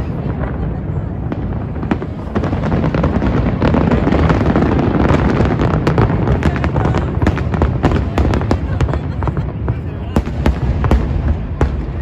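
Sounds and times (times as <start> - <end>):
fireworks booms and crackles: 0.0 - 12.0.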